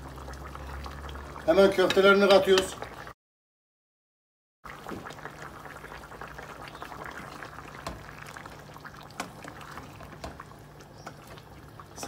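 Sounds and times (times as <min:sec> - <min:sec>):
sauce bubbling in a pot: 0:00.0 - 0:03.2, 0:04.6 - 0:12.0.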